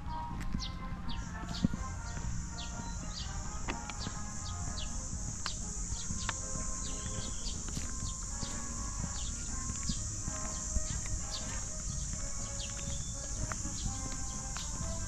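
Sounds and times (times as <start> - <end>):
birds chirping: 0.0 - 15.0
steady high hiss: 1.4 - 15.0.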